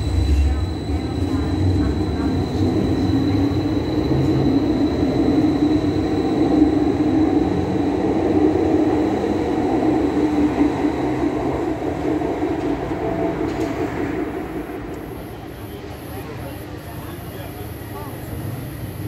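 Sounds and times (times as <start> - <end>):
electric train rolling rumble: 0.0 - 19.0.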